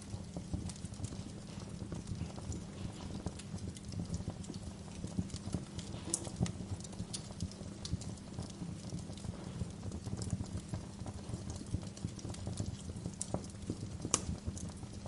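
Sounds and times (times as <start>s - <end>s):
fire crackling: 0.0s - 15.0s
low rumble of fire: 0.0s - 15.0s.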